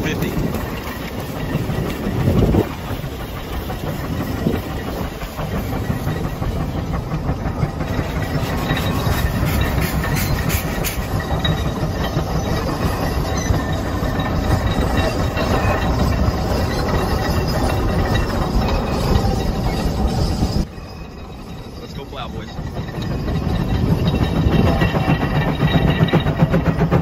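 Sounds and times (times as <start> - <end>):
steam traction engine rumbling: 0.0 - 27.0.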